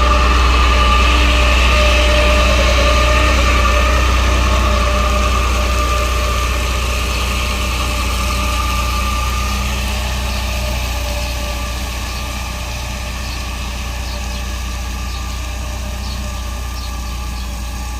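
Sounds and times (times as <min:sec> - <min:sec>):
diesel truck engine idling: 0:00.0 - 0:17.9
faint high whine: 0:00.0 - 0:17.9.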